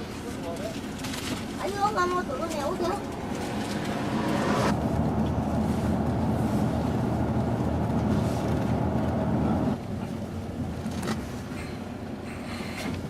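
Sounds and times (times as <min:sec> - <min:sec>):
coach engine and road drone: 0:00.0 - 0:13.0.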